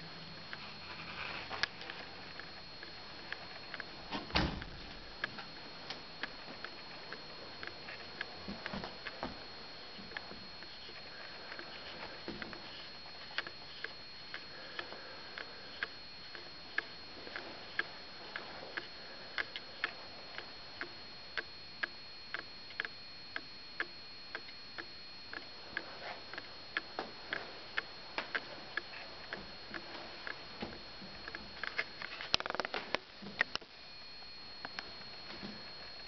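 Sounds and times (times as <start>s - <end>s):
faint high whine: 0.0s - 36.0s
steady light ticking: 4.6s - 36.0s.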